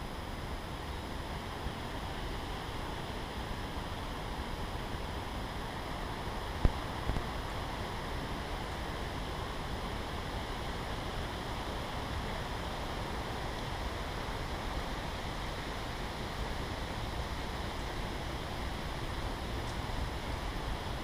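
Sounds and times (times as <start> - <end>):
wind hissing in forest: 0.0 - 21.0.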